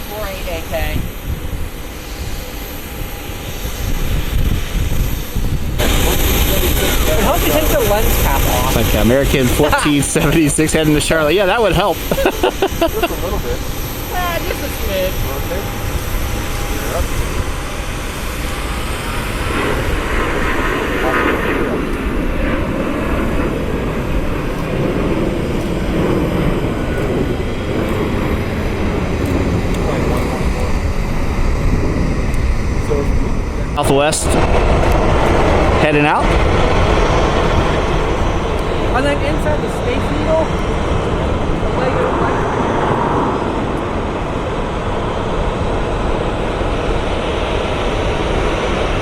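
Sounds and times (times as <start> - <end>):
jet airliner engines rumbling: 0.0 - 49.0.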